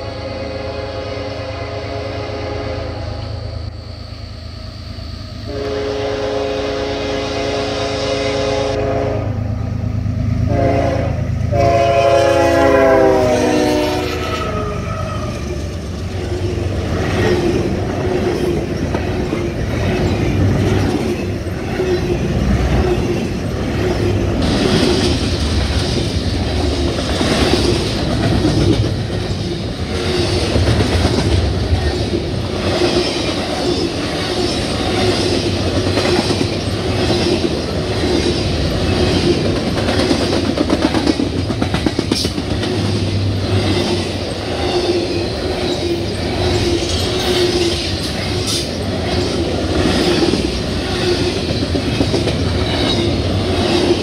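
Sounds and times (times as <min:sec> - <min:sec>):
freight train rumbling past: 0:00.0 - 0:54.0
wheel hum on rail: 0:00.0 - 0:54.0.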